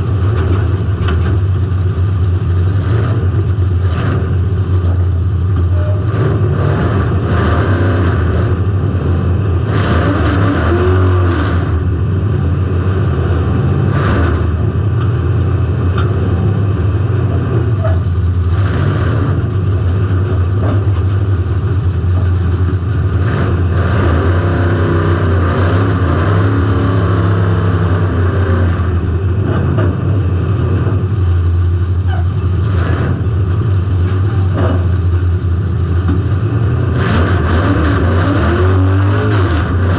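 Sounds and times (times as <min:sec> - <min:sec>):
car engine running hard: 0:00.0 - 0:39.9.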